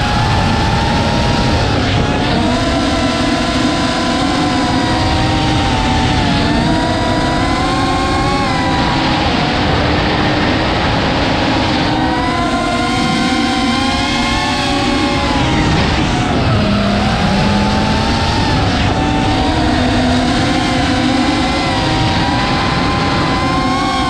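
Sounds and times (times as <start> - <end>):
quadcopter motors whining: 0.0 - 24.0
wind rush on microphone: 0.0 - 24.0.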